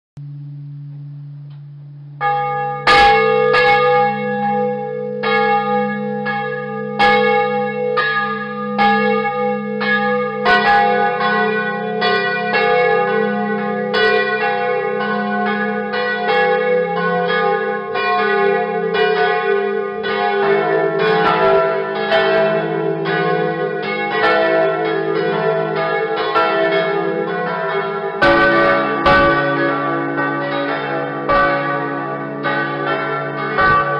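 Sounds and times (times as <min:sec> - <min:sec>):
church bells ringing: 0:02.2 - 0:33.9.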